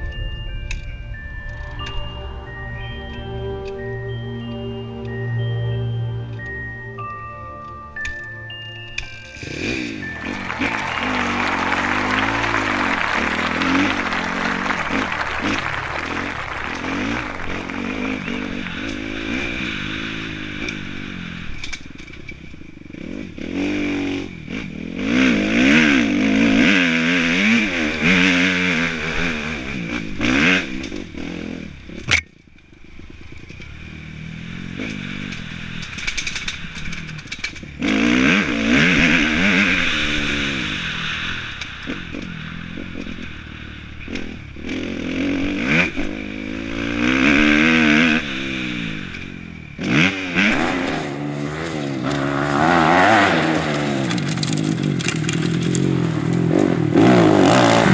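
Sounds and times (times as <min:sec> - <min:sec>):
motocross bike engine revving: 0:08.0 - 0:32.2, 0:32.9 - 0:57.9.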